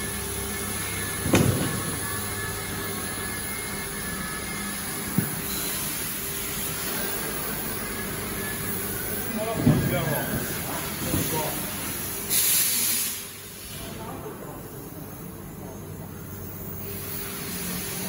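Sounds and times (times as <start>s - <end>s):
factory machinery and ventilation: 0.0s - 18.0s.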